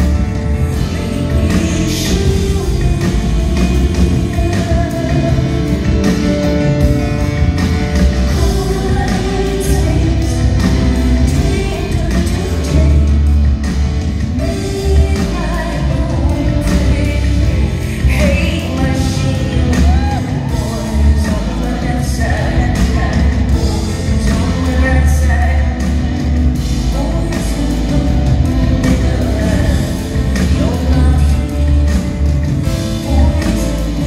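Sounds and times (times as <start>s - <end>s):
drum kit beat: 0.0s - 34.0s
grand piano: 0.0s - 34.0s
heavy low bass: 0.0s - 34.0s
woman singing: 0.0s - 34.0s.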